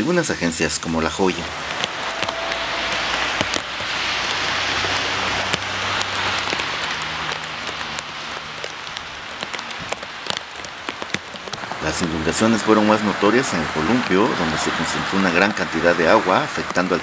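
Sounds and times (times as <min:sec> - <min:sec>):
heavy rain on street: 0:00.0 - 0:17.0.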